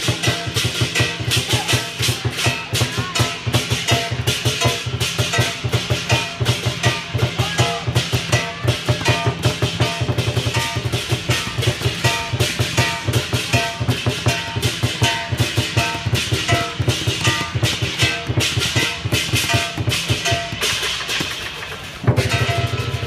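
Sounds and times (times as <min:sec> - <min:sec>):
crashing cymbals: 0:00.0 - 0:23.0
fast drumbeat: 0:00.0 - 0:23.0
ringing metal tones: 0:00.0 - 0:23.0.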